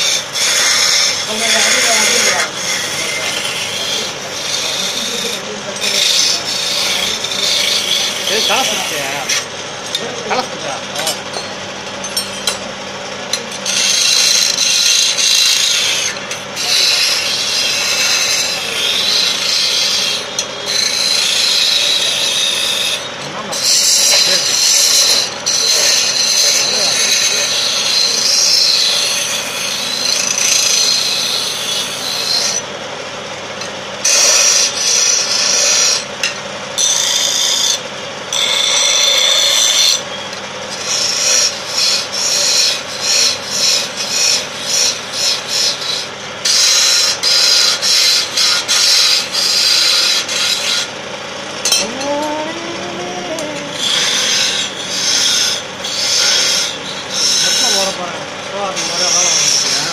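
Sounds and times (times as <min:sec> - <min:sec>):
wood lathe spinning: 0:00.0 - 0:11.0, 0:13.3 - 0:59.9.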